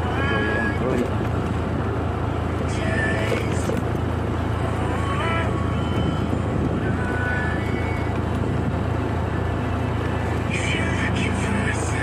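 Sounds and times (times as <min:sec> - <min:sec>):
wind rumble: 0:00.0 - 0:12.0.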